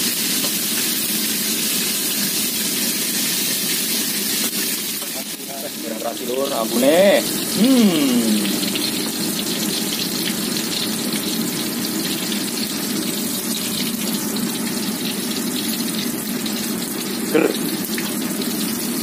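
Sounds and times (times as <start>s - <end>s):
oil sizzling in a wok: 0.0s - 19.0s.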